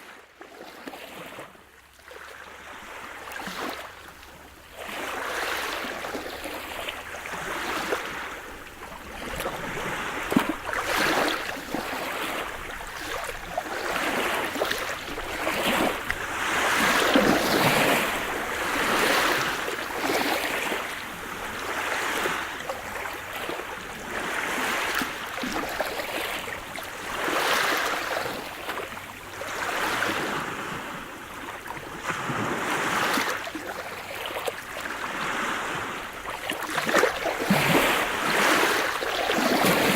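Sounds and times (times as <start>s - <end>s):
small waves breaking: 0.0s - 39.9s.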